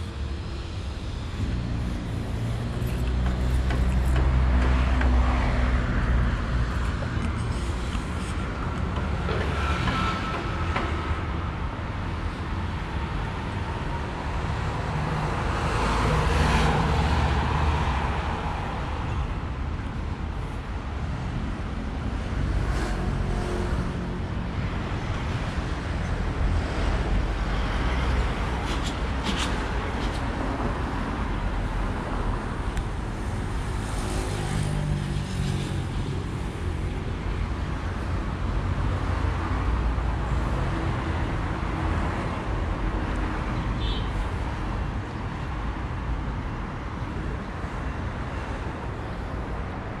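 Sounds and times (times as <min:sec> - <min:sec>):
cars driving along street: 0:00.0 - 0:50.0.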